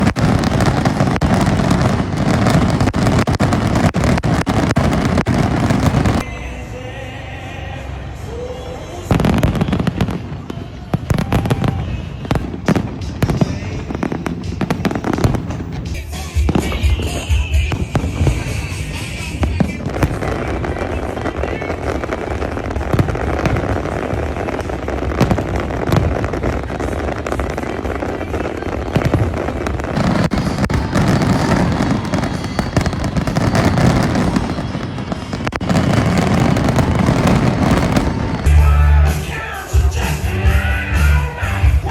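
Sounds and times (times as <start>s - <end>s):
deep heavy firework booms: 0.0s - 6.2s, 9.1s - 40.6s
fireworks bangs and crackles: 0.0s - 6.3s, 8.3s - 41.9s.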